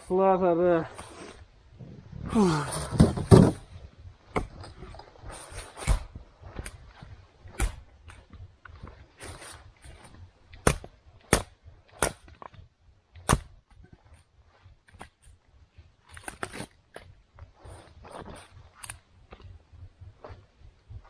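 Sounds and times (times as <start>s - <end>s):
low rustle: 0.8s - 21.0s
firewood crackling and popping: 0.9s - 21.0s.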